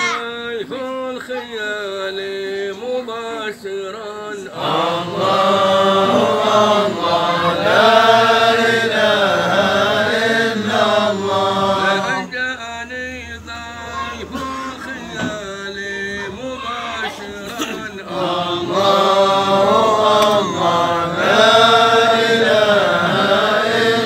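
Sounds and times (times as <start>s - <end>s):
men chanting in unison: 0.0s - 24.0s.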